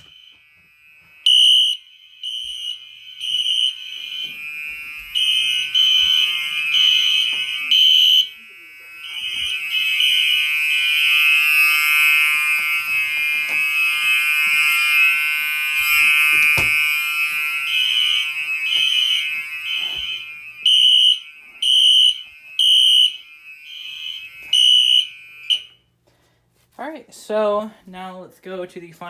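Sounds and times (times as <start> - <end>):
fire alarm horns blaring: 0.0 - 26.0.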